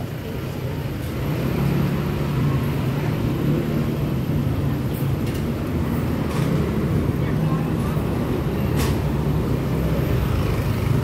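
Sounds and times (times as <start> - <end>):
road noise: 0.0 - 11.0
vehicle engine droning: 0.0 - 11.0.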